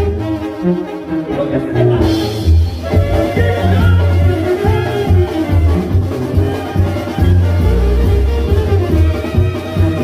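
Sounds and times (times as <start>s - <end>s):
rhythmic bass line: 1.1s - 10.0s.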